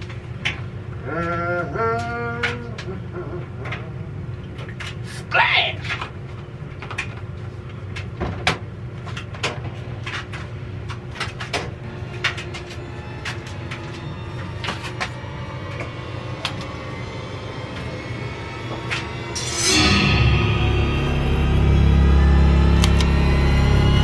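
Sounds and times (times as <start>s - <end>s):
low machine hum: 0.0s - 5.0s, 5.8s - 24.0s.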